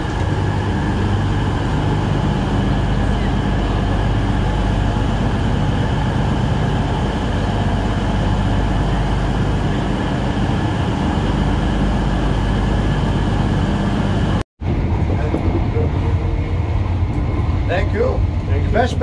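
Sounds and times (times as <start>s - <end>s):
train engines humming: 0.0s - 19.0s.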